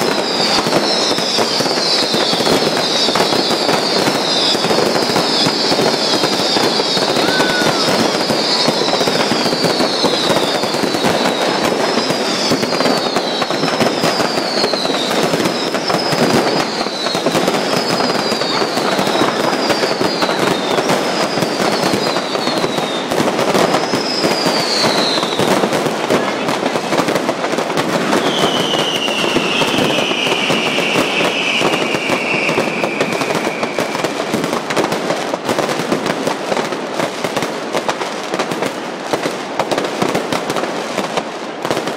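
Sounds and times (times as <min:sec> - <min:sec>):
falling firework whistles: 0:00.0 - 0:36.1
fireworks crackling and popping: 0:00.0 - 0:41.9.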